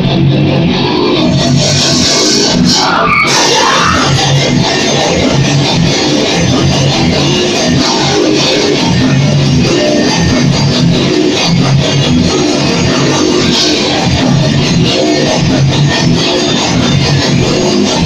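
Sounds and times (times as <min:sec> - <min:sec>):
distorted electric guitar: 0:00.0 - 0:18.0
drum kit: 0:00.0 - 0:18.0.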